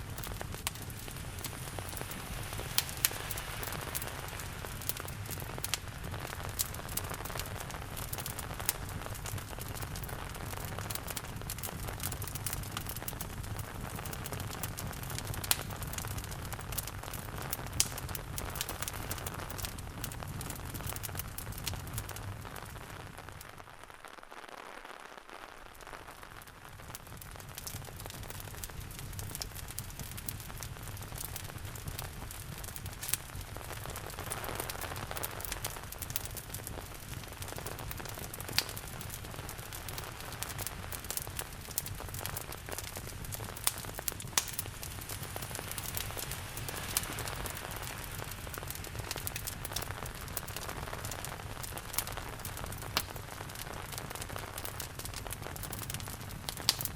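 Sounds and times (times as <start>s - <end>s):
steady rain: 0.0s - 56.9s
wood fire crackling: 0.0s - 56.9s.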